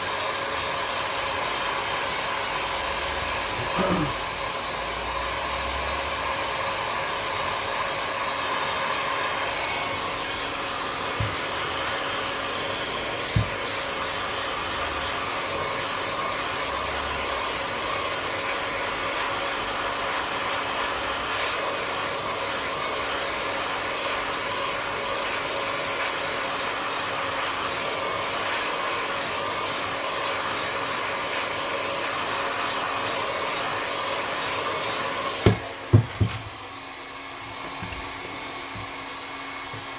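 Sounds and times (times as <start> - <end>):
hot-air gun blowing: 0.0 - 39.9.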